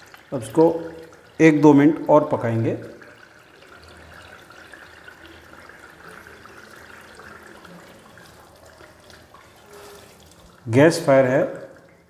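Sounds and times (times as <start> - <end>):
sauce bubbling and sizzling in oil: 0.0 - 12.0.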